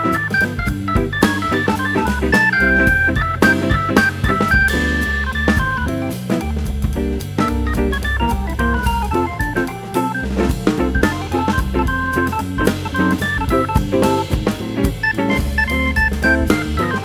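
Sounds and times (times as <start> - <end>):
drum kit steady beat: 0.0 - 17.0
organ playing lively melody: 0.0 - 17.0.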